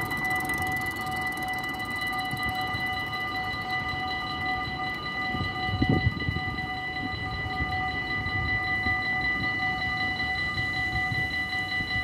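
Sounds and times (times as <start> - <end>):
level crossing warning bells: 0.0 - 12.0.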